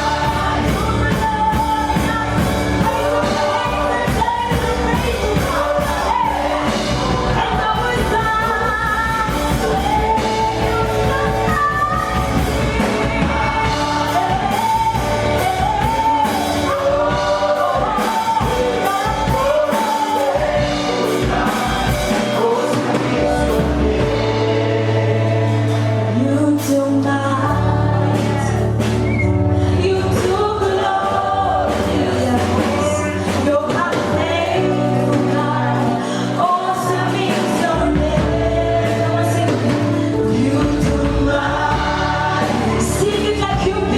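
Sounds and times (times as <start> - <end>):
singers with a band: 0.0 - 43.9
sustained bass notes: 0.0 - 43.9.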